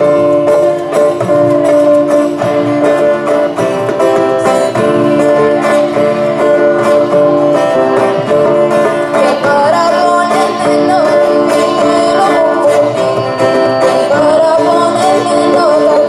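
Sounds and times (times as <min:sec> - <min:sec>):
folk dance music by small band: 0:00.0 - 0:16.0.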